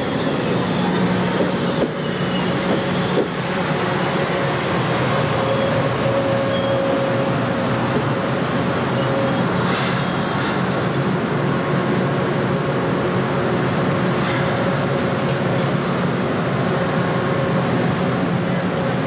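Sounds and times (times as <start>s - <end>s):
electric train hum and rumble: 0.0s - 19.0s.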